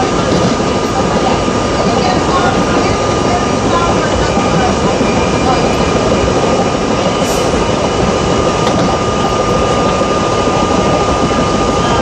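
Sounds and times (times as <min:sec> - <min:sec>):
high train whine: 0:00.0 - 0:12.0
train wheels rumbling on rail: 0:00.0 - 0:12.0.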